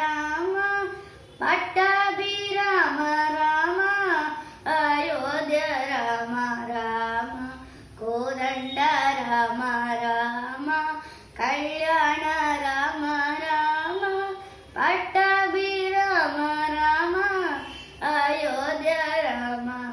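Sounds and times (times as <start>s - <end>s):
girl singing devotional song: 0.0s - 19.9s.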